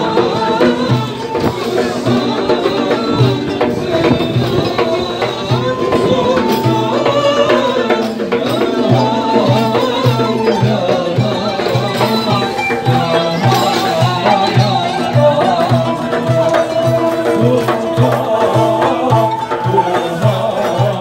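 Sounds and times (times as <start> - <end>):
flute melody: 0.0 - 21.0
frame drums beating: 0.0 - 21.0.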